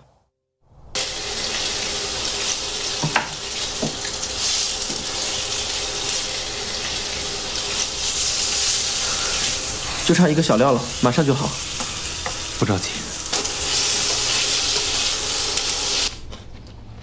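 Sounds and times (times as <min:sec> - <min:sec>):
food sizzling in a frying pan: 0:01.0 - 0:16.2.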